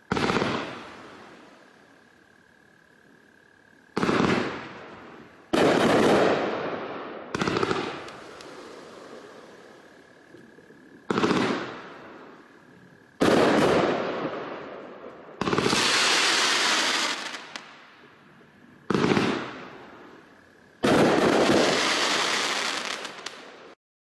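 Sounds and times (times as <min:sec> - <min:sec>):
fireworks bursts with crackling hiss: 0:00.0 - 0:02.6, 0:03.8 - 0:23.8.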